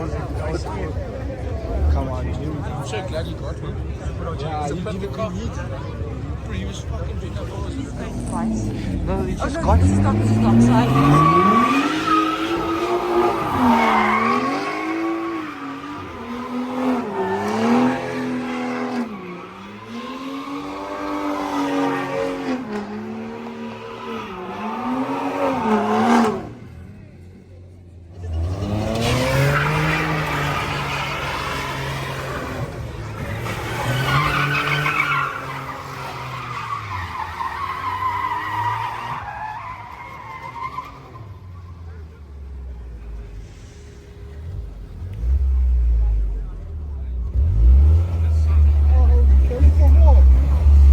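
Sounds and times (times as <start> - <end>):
car engine revving: 4.9 - 27.0, 28.1 - 50.9.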